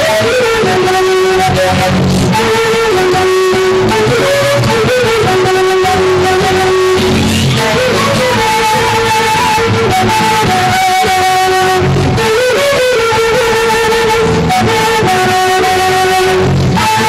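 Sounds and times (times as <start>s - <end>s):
strummed plucked strings: 0.0s - 17.0s.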